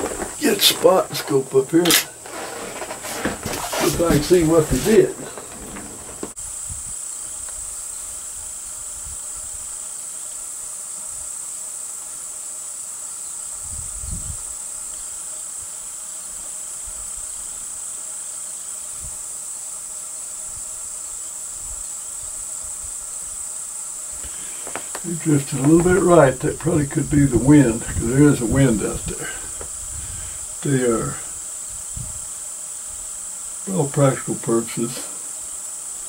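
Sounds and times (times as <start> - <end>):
insect chorus drone: 0.0 - 36.0.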